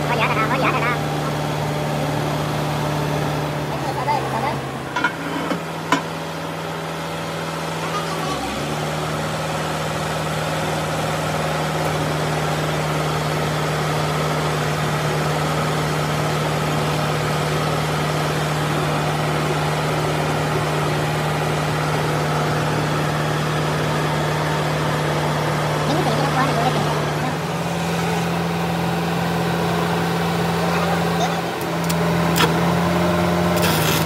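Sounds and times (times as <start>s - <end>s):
hydraulic press humming: 0.0s - 13.6s, 16.4s - 34.0s.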